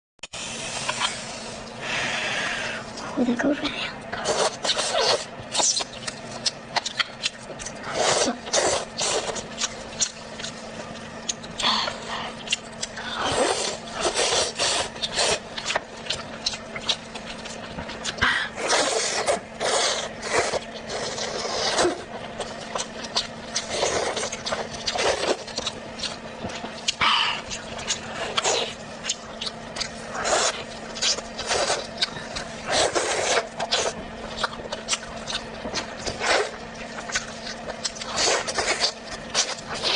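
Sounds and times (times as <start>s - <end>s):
faint steady hum: 0.2s - 39.9s
wet chewing and crunching: 4.0s - 39.9s.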